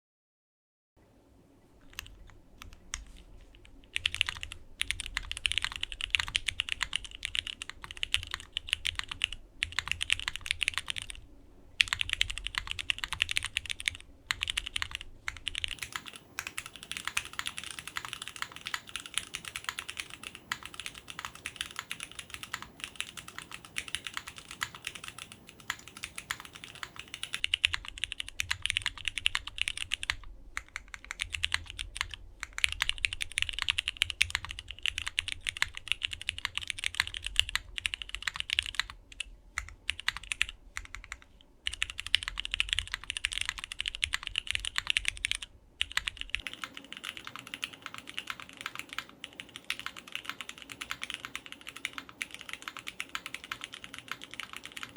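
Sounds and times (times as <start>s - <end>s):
mechanical keyboard typing: 1.9s - 11.2s, 11.8s - 54.9s.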